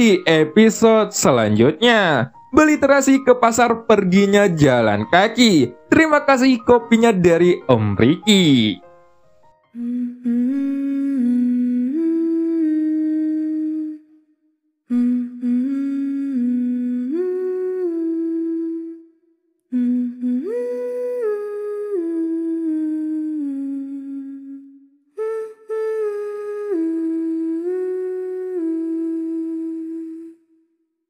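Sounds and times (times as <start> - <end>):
person humming: 0.0 - 8.8, 9.8 - 14.1, 14.9 - 19.0, 19.7 - 30.4.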